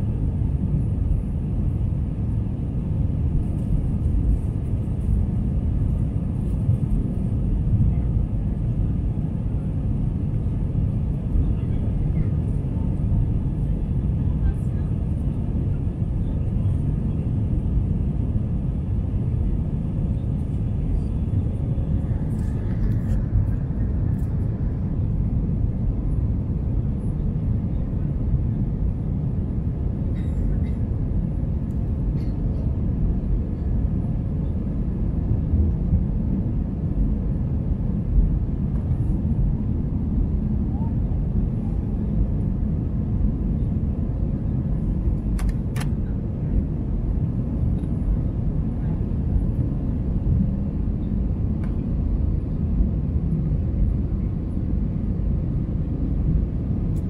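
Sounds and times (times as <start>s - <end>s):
jet engine rumble in cabin: 0.0s - 57.0s.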